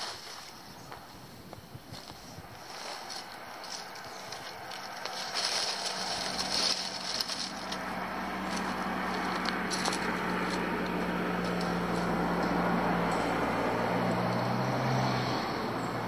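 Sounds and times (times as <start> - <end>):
dry leaves and twigs crackling: 0.0 - 15.4
approaching car engine and tyres: 0.0 - 16.0.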